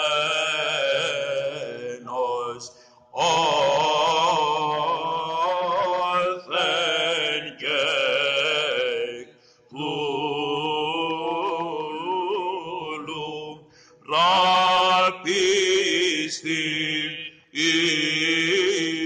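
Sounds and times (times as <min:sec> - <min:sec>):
man chanting a hymn: 0:00.0 - 0:19.0.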